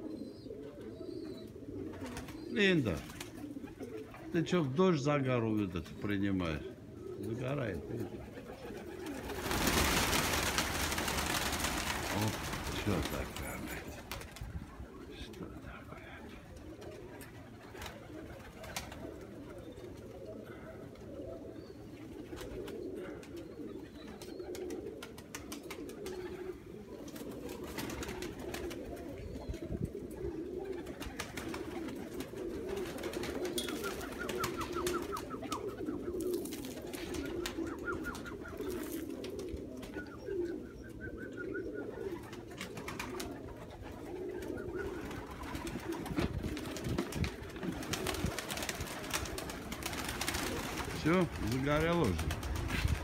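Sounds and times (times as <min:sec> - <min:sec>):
pigeons cooing: 0:00.0 - 0:53.0
wings flapping: 0:01.8 - 0:04.4, 0:07.8 - 0:20.2, 0:22.0 - 0:40.6, 0:41.4 - 0:53.0.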